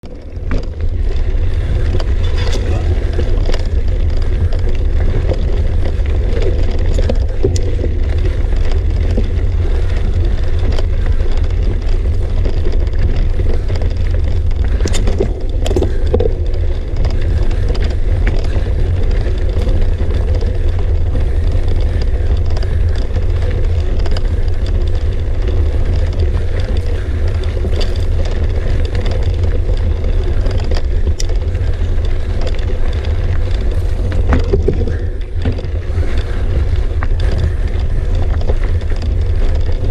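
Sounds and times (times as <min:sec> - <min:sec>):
bike clicks and knocks: 0:00.0 - 0:39.9
wind rumble on microphone: 0:00.0 - 0:39.9.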